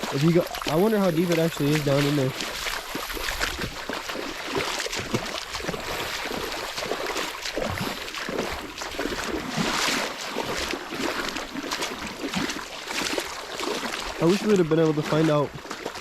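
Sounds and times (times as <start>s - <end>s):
wading through river water: 0.0s - 16.0s.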